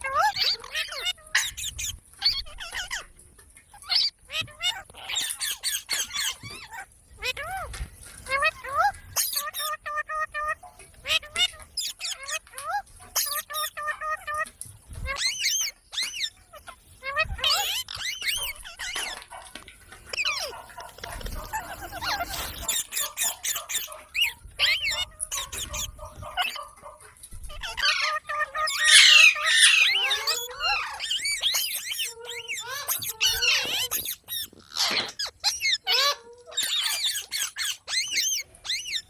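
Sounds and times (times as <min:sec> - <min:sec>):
parrots chattering and squawking: 0:00.0 - 0:39.0.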